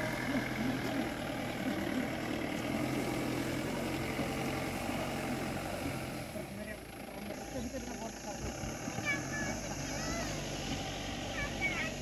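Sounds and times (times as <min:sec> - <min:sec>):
jeep engine running at low revs: 0:00.0 - 0:12.0.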